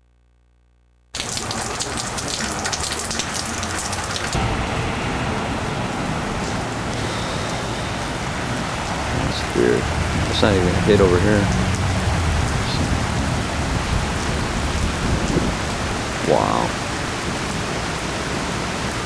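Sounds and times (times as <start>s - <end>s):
heavy rain falling: 1.2s - 19.0s.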